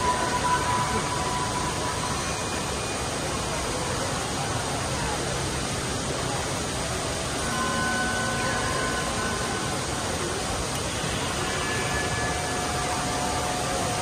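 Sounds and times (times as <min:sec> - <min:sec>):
indoor waterfall rushing hiss: 0:00.0 - 0:14.0.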